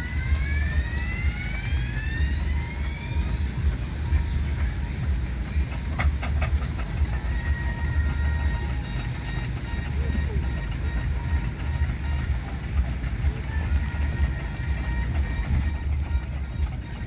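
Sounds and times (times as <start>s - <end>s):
rising whine: 0.0s - 17.0s
steam traction engine rumbling: 0.0s - 17.0s.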